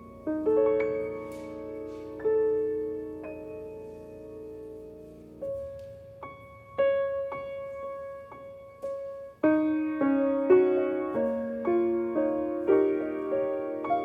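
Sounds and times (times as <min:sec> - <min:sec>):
solo piano played slowly: 0:00.0 - 0:14.0.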